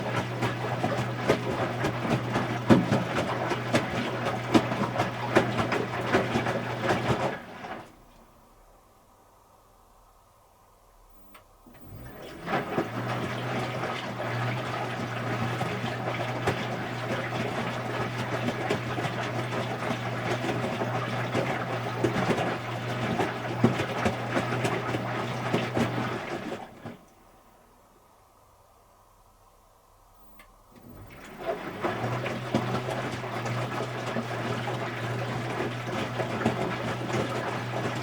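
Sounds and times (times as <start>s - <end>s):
washing machine water rushing: 0.0s - 8.0s, 11.7s - 27.1s, 30.8s - 38.0s
washing machine low hum: 0.0s - 38.0s.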